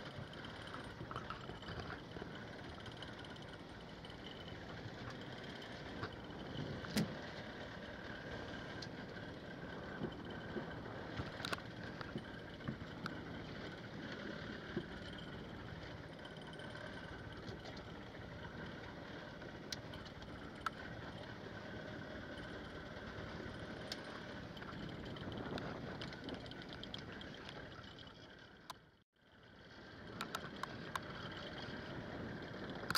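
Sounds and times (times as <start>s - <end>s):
water noise: 0.0s - 29.0s
boat engine droning: 0.0s - 32.9s.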